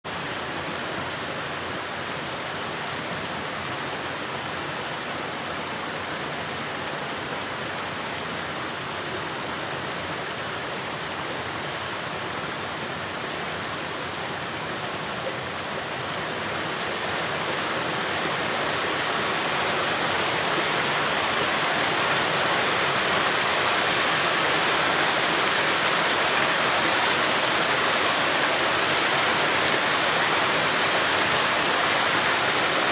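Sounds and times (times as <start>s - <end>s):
stream rushing over rocks: 0.1s - 32.9s.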